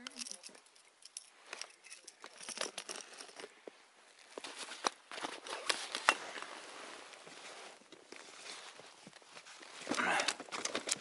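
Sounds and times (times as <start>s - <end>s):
rustling of gloved hands: 0.0s - 11.0s.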